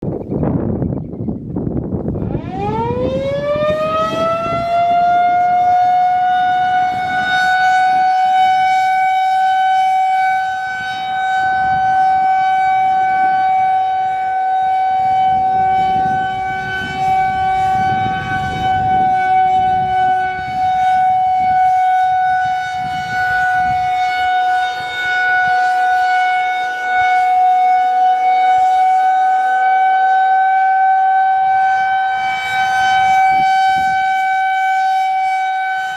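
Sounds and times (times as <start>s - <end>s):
wind rumbling on microphone: 0.0s - 35.9s
rotating warning siren: 0.1s - 35.9s.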